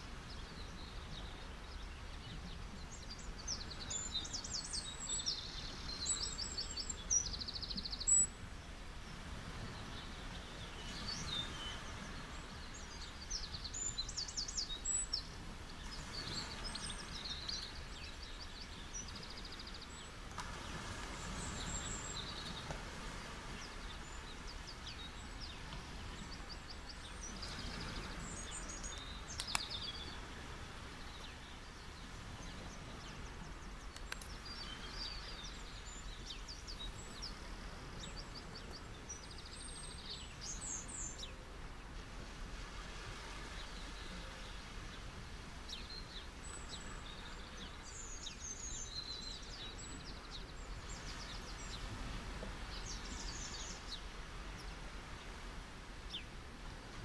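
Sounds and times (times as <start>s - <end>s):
small birds chirping: 0.0s - 8.4s, 9.8s - 22.8s, 23.5s - 41.4s, 43.4s - 55.4s
ocean waves on beach: 0.0s - 57.0s.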